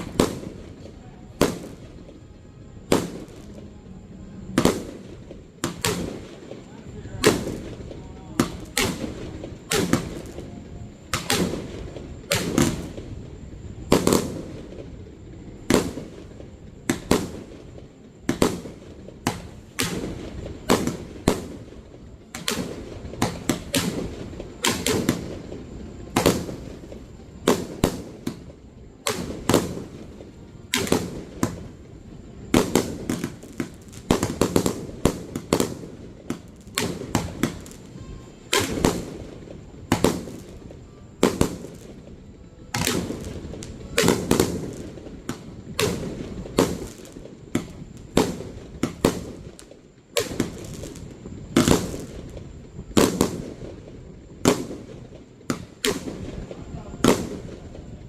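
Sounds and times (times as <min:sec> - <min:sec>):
fireworks bangs with rumbling echo: 0:00.0 - 0:58.0.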